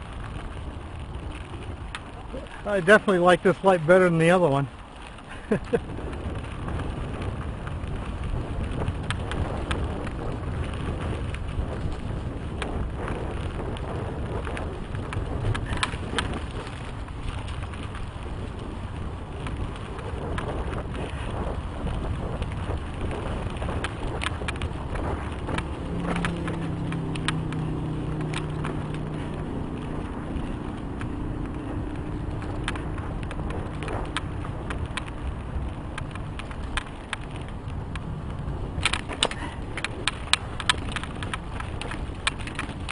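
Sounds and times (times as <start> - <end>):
bike clicks and rattles: 0.0 - 42.9
tyre and wind rushing: 0.0 - 42.9.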